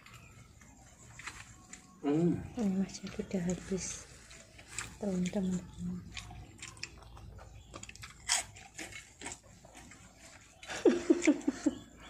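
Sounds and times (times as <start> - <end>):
crackers crunching: 0.0 - 11.7
people chewing: 0.0 - 12.0.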